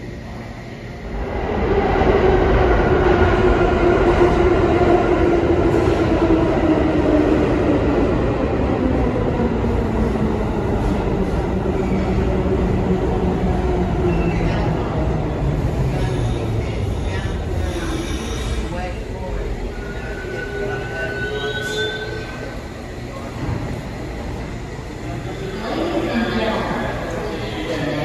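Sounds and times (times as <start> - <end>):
subway train rumble and wheel noise: 0.0 - 28.0.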